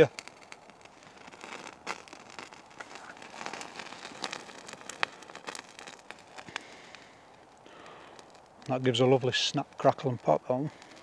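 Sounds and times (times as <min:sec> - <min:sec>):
paper burning crackling and popping: 0:00.0 - 0:11.0.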